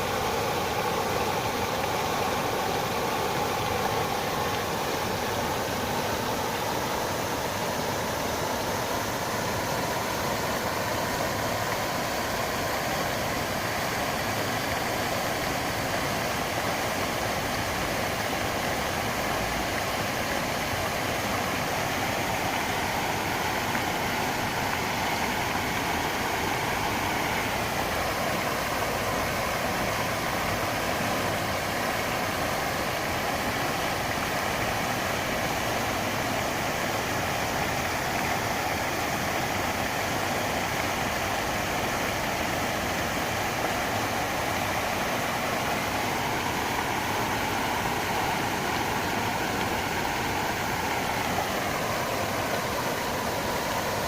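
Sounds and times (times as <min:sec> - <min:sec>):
fountain water rushing: 0:00.0 - 0:54.0.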